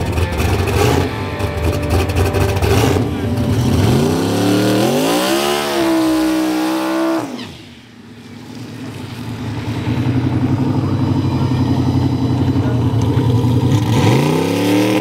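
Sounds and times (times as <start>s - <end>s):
choppy engine rumble: 0.0s - 5.0s, 7.6s - 15.0s
car engine revving high: 0.0s - 7.7s, 8.6s - 15.0s.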